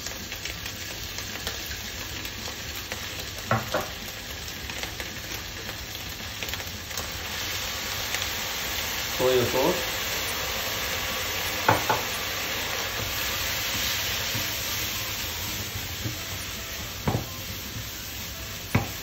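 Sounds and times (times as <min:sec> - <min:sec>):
vegetables sizzling in a wok: 0:00.0 - 0:19.0.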